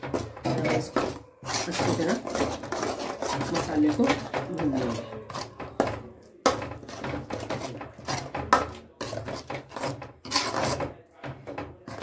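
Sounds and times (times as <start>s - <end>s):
steel ladle scraping a metal pan: 0.0s - 12.0s.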